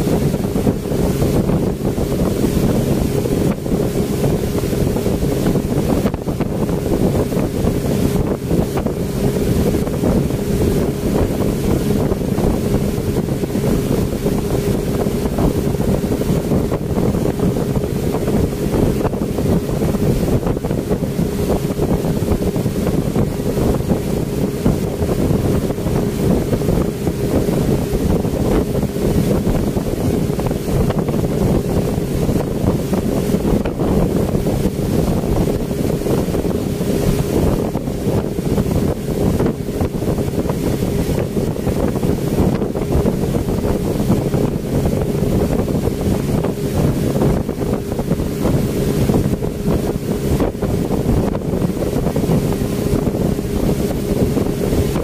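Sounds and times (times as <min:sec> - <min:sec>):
speedboat engine droning: 0:00.0 - 0:55.0
water rushing past hull: 0:00.0 - 0:55.0
wind buffeting microphone: 0:00.0 - 0:55.0.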